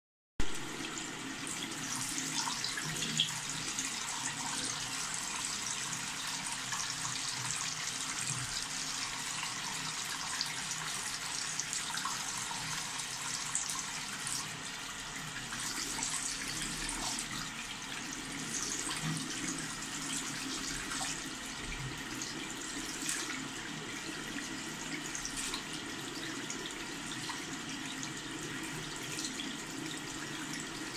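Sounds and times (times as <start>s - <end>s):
tap water running into sink: 0.4s - 30.9s.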